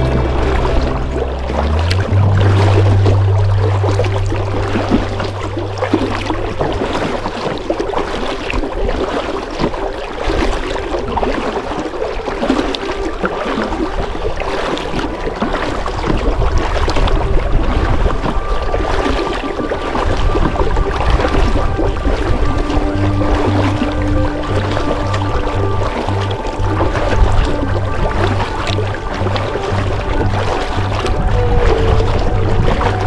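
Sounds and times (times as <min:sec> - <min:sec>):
low hum: 0:00.0 - 0:10.3, 0:12.5 - 0:33.0
paddle splashing through water: 0:00.0 - 0:33.0
water dripping: 0:00.0 - 0:33.0.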